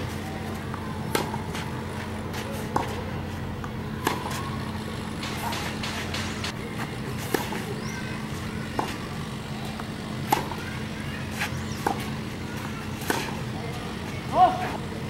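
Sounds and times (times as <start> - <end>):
racket striking tennis ball: 0.0 - 14.8
steady low hum: 0.0 - 15.0
tennis ball bouncing: 0.0 - 15.0.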